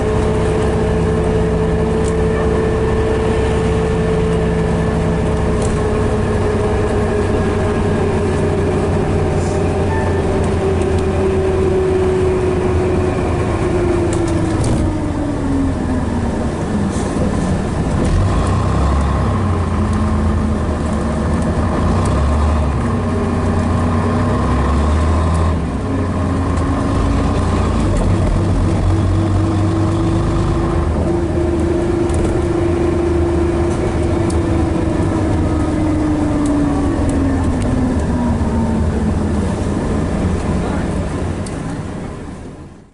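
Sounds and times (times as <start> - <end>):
bus engine rumbling: 0.0 - 42.9
drivetrain whine: 0.0 - 42.9.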